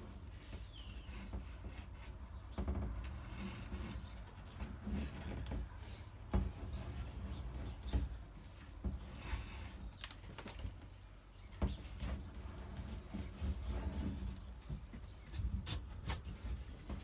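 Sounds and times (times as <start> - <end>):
wooden batten scraping: 0.0 - 17.0.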